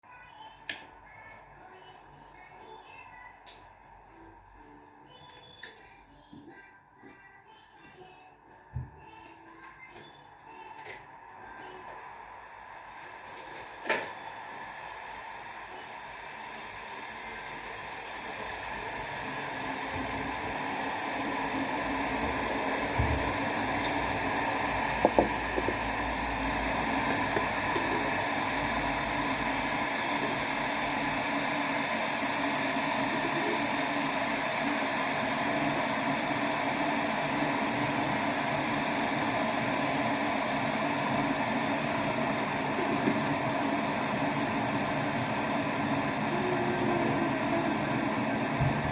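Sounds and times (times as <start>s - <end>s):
electric kettle heating water: 9.7s - 48.9s.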